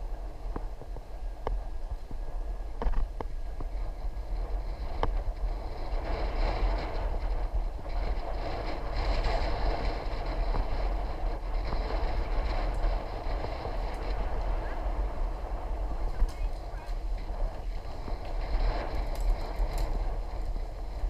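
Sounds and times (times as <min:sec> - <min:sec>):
bicycle tyres on road: 0:00.0 - 0:21.0
wind buffeting microphone: 0:00.0 - 0:21.0.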